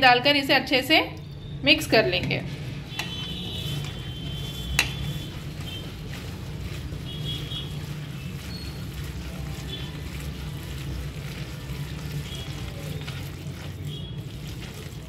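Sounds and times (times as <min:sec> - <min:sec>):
hand squishing wet batter: 0:02.5 - 0:15.0.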